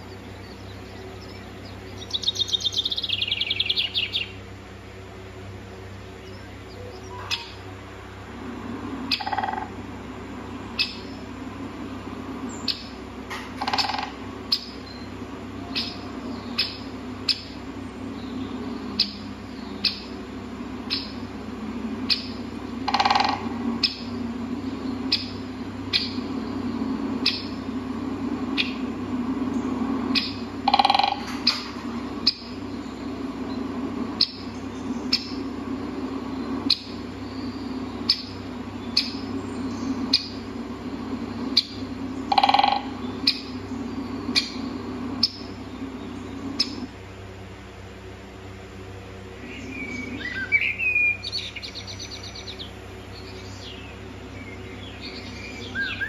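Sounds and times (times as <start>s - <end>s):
harsh bird calls: 0.0s - 4.6s, 5.8s - 8.0s, 9.0s - 47.3s, 48.9s - 56.0s
birds chirping: 0.0s - 56.0s
steady low hum: 0.0s - 56.0s.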